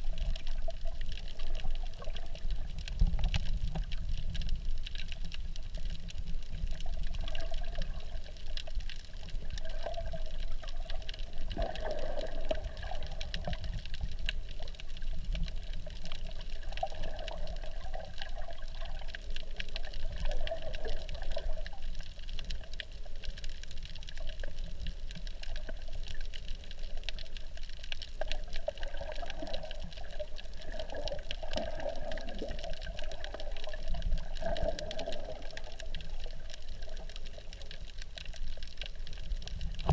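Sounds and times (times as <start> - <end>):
muffled underwater rumble: 0.0 - 39.9
small clicks crackling: 0.0 - 39.9
water gurgling: 0.0 - 39.9.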